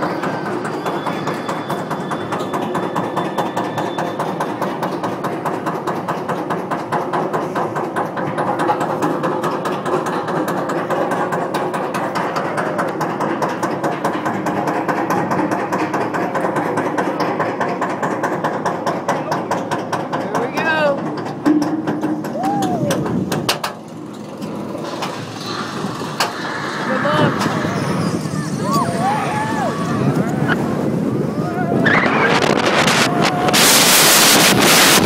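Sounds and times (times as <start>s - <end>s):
lift chain droning: 0.0s - 31.3s.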